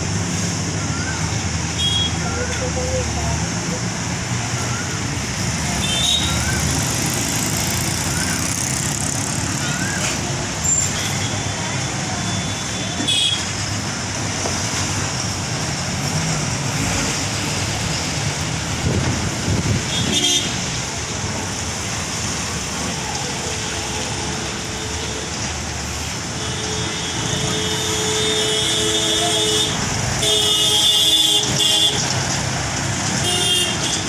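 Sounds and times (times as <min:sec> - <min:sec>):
road traffic: 0:00.0 - 0:34.0.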